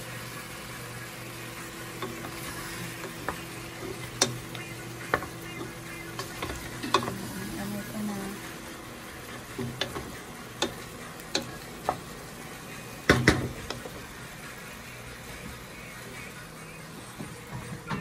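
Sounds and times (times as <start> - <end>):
chicken sizzling quietly: 0.0 - 17.6.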